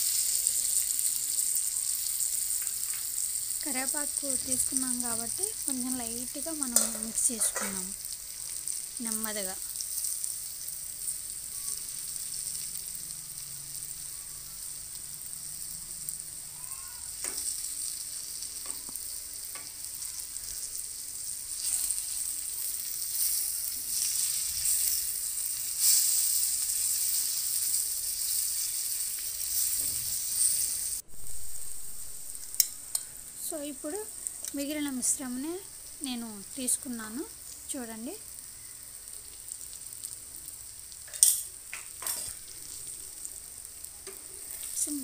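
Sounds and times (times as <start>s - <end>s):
oil sizzling in a pan: 0.0s - 45.0s.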